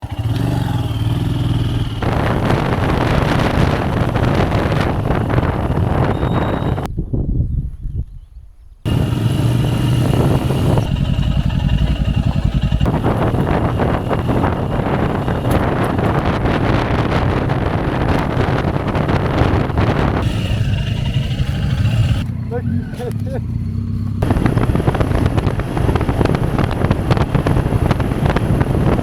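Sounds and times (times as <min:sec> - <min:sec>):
motorcycle engine running: 0:00.0 - 0:06.9, 0:08.9 - 0:29.0.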